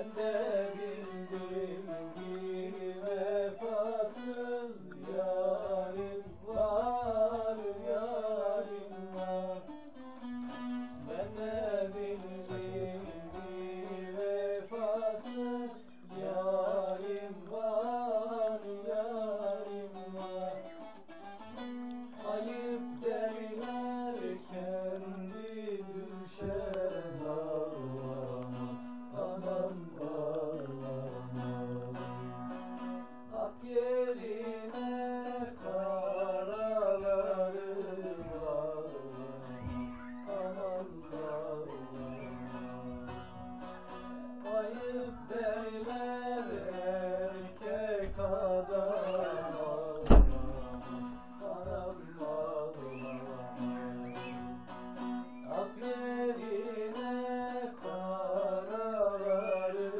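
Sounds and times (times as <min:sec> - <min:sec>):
long-necked lute strummed and plucked: 0:00.0 - 0:59.9
man singing folk song: 0:00.0 - 0:59.9.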